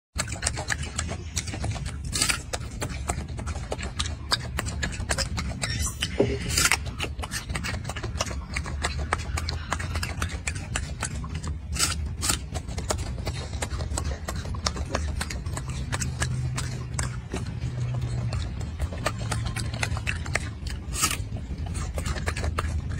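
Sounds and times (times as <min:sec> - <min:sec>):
monkey chewing crunchy fruit: 0:00.2 - 0:22.9
low steady rumble: 0:00.4 - 0:22.9.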